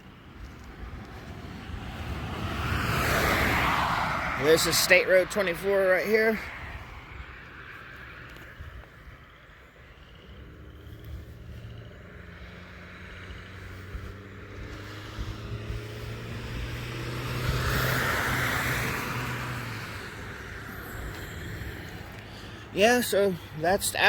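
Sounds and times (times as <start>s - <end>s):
vehicle driving past: 0.5s - 8.5s, 9.9s - 24.0s.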